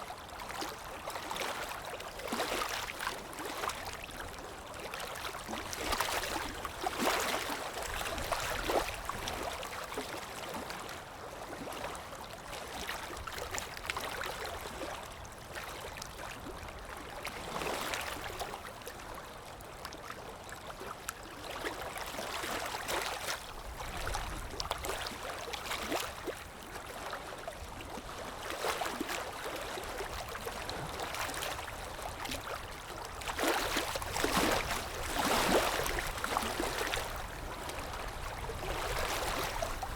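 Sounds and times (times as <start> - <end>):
water lapping and splashing: 0.1 - 39.9.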